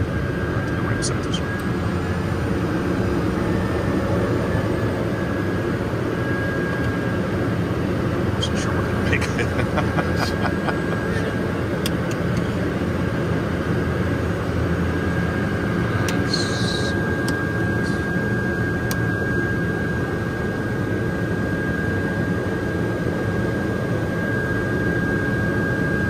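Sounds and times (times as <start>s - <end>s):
high steady whine: 0.0s - 26.0s
turboprop engine drone: 0.0s - 26.0s.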